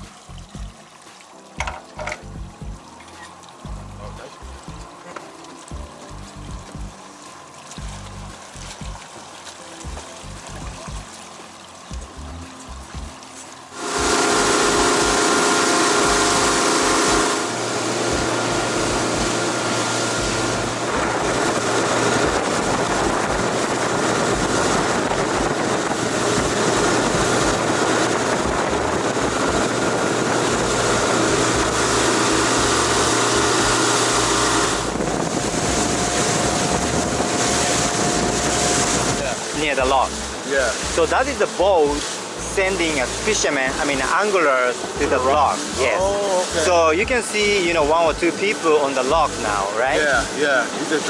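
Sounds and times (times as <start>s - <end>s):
boat engine hum: 0.0s - 51.0s
rush of wind and water: 0.0s - 51.0s.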